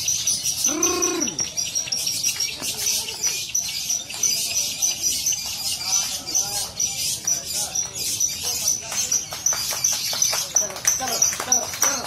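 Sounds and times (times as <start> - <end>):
lovebirds chattering: 0.0 - 12.0.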